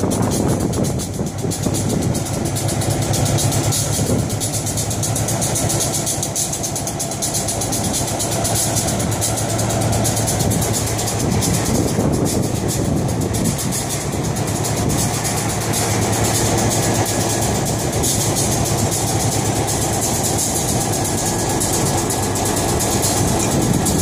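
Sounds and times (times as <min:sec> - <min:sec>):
locomotive engine idling: 0:00.0 - 0:24.0.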